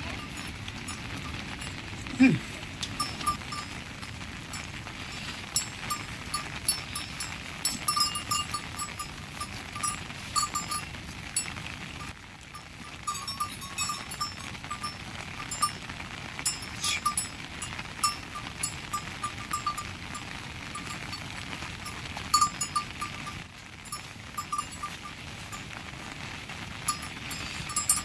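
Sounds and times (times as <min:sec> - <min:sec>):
livestock bells clinking: 0:00.0 - 0:28.0.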